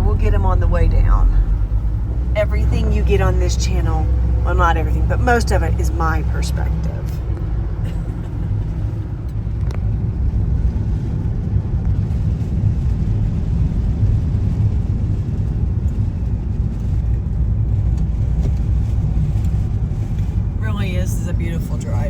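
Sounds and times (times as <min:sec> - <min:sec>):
tyres on road: 0:00.0 - 0:22.0
vehicle engine rumble: 0:00.0 - 0:22.0.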